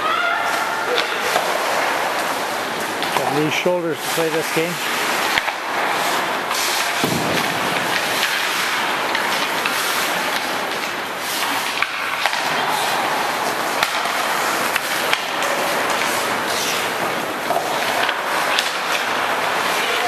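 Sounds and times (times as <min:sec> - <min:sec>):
hockey sticks clacking: 0:00.0 - 0:20.0
ice skates scraping on ice: 0:00.1 - 0:20.0.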